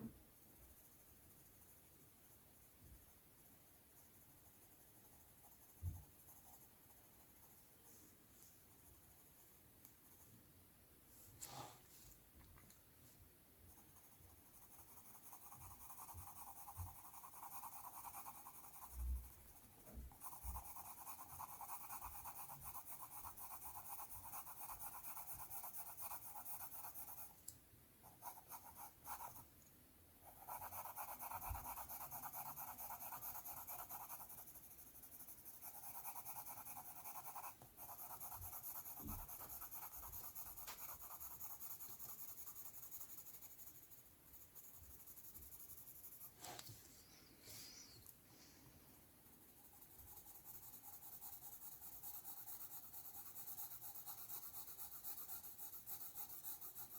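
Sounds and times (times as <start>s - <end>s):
pencil scratching on paper: 0.4s - 10.2s, 13.7s - 27.4s, 28.0s - 29.5s, 30.2s - 46.7s, 49.3s - 56.9s.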